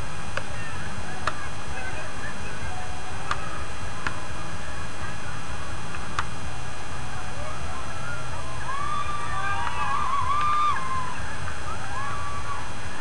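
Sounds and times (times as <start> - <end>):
crowd murmur: 0.0 - 13.0
steady background rush: 0.0 - 13.0.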